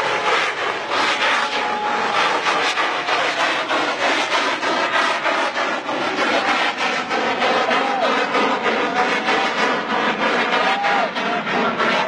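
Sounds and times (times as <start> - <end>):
rocket firework motor hissing: 0.0 - 12.0.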